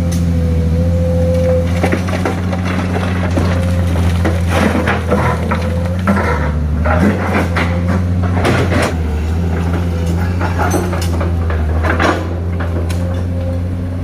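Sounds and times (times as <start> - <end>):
dump truck diesel engine: 0.0 - 14.0
truck knocks creaks and rattles: 1.5 - 14.0.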